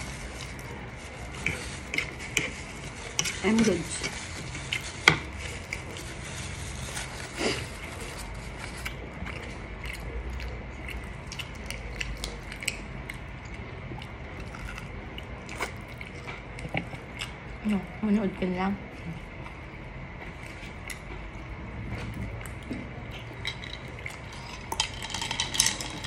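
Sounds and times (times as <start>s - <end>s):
crunchy chewing: 0.0s - 18.0s, 18.8s - 26.0s.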